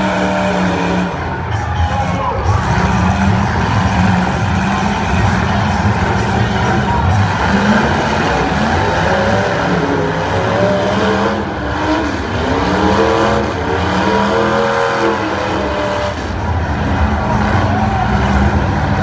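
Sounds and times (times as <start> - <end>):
car engines running hard: 0.0 - 19.0
engine revving: 0.0 - 19.0.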